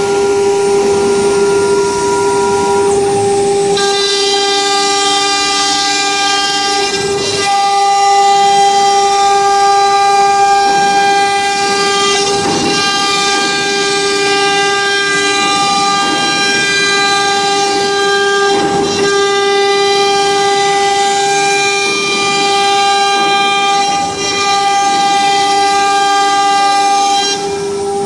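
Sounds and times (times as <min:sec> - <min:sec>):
router bit cutting wood: 0:00.0 - 0:28.0
router spindle whine: 0:00.0 - 0:28.0.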